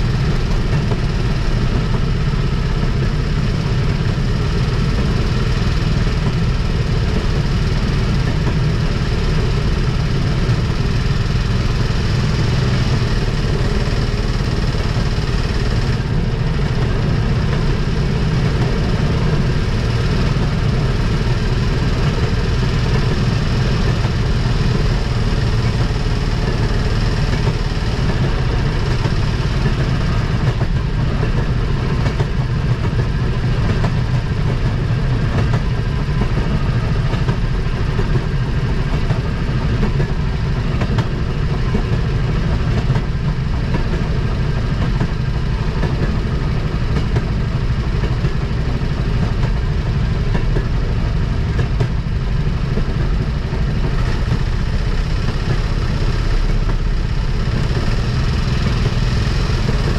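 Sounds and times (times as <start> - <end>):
rail motorcar running on track: 0.0 - 59.9.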